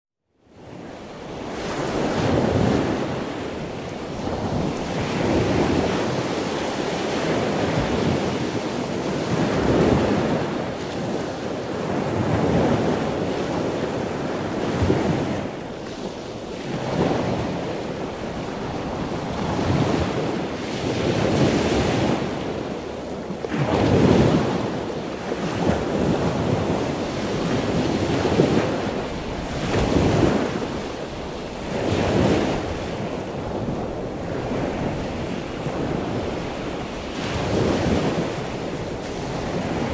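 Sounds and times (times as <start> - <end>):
ocean waves rushing: 0.6 - 39.9.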